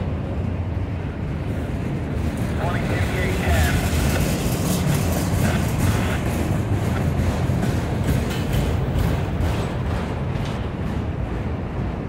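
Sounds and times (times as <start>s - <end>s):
freight train wheels rumbling: 0.0s - 12.0s
faint clicks of train wheels: 2.2s - 12.0s.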